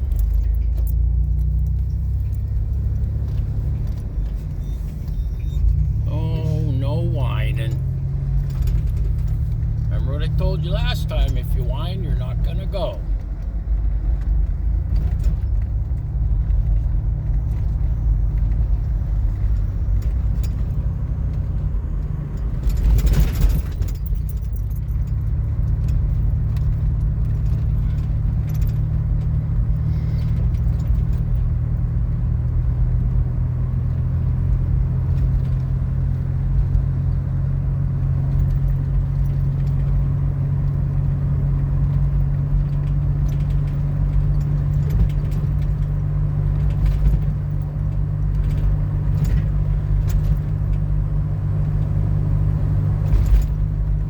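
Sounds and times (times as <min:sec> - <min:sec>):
car engine and road drone: 0:00.0 - 0:54.0.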